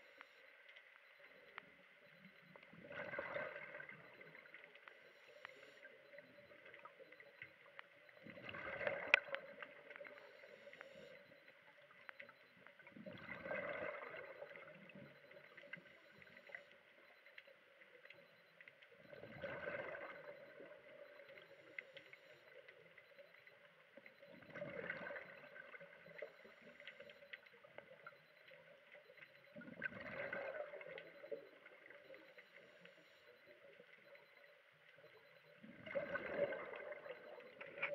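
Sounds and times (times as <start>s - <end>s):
faint steady hum: 0.0s - 37.9s
exhaled bubbles gurgling: 2.1s - 5.0s, 5.8s - 16.6s, 18.9s - 21.8s, 22.4s - 32.8s, 33.4s - 37.9s.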